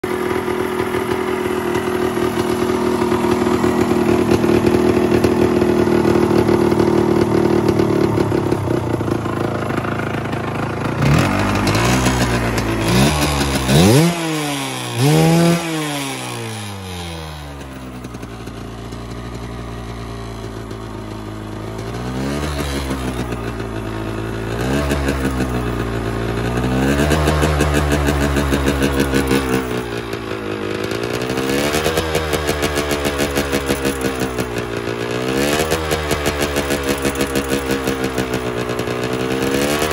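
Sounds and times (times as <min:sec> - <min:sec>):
dirt bike engine revving: 0:00.0 - 0:20.8, 0:21.4 - 0:39.9.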